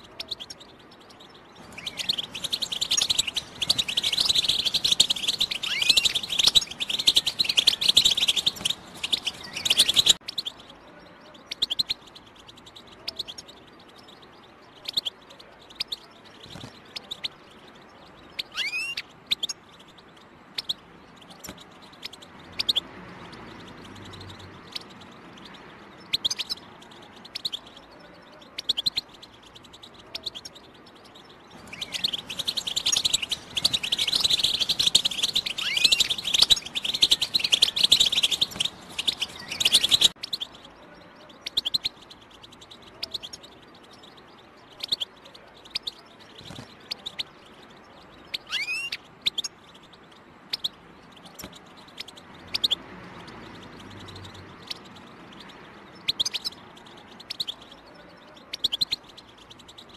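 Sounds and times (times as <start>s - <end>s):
bird chirps and calls: 0.0s - 59.9s
goldfinch twittering song: 0.0s - 59.9s.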